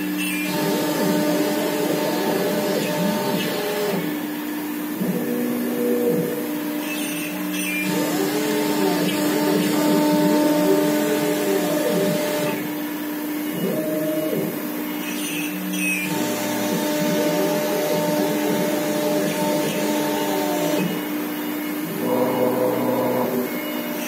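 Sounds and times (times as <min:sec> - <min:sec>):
router spindle running: 0:00.0 - 0:24.0
drive motors whining: 0:00.3 - 0:24.0.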